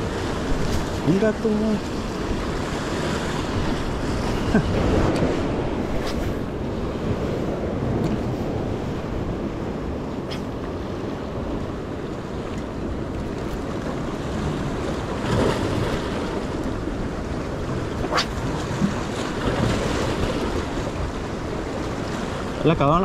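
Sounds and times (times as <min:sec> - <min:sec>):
wind buffeting microphone: 0:00.0 - 0:22.7
surf washing against rocks: 0:00.0 - 0:23.0.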